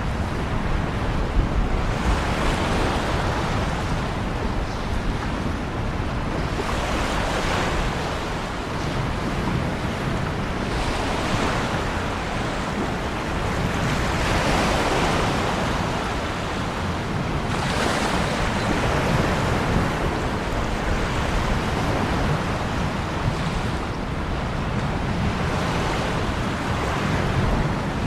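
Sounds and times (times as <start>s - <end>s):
ocean waves washing: 0.0s - 28.0s.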